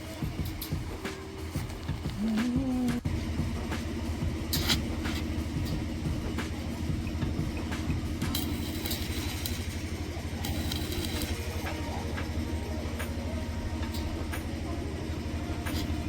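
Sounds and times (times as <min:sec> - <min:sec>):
engine running with low throb: 0:00.0 - 0:16.0.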